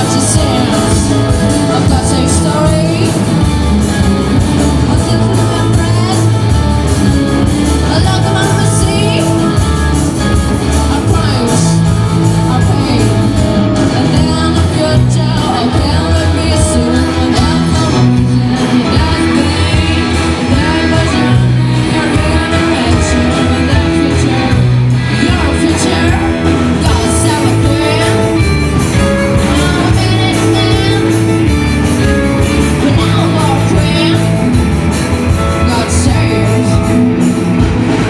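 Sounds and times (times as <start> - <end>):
live rock band playing: 0.0 - 38.0
sung lead vocals: 0.0 - 38.0.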